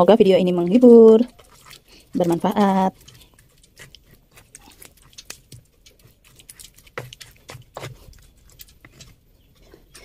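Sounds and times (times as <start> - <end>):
stone pestle grinding in mortar: 0.0 - 10.0.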